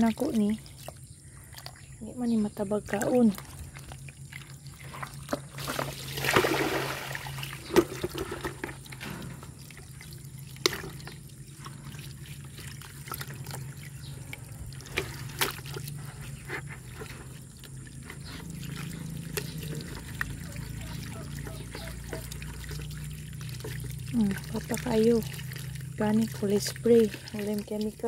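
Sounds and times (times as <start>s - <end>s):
hose water splashing into bucket: 0.0s - 28.0s.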